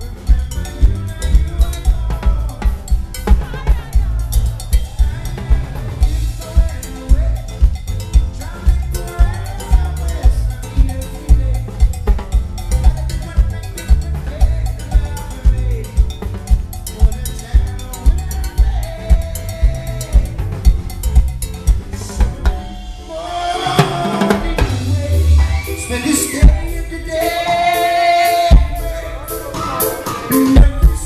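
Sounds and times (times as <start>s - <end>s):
drum kit: 0.0s - 31.0s
live band playing: 0.0s - 31.0s
sustained pitched instruments: 0.0s - 31.0s.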